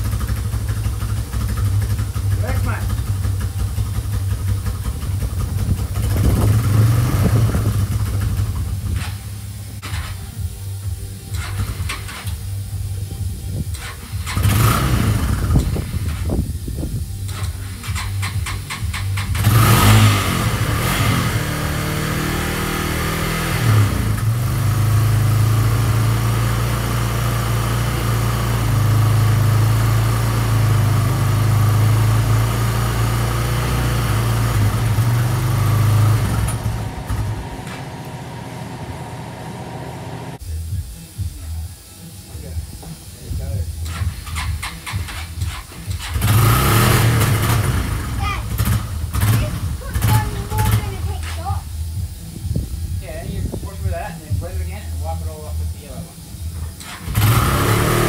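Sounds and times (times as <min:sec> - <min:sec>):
quad engine running: 0:00.0 - 0:41.7, 0:42.3 - 0:58.0.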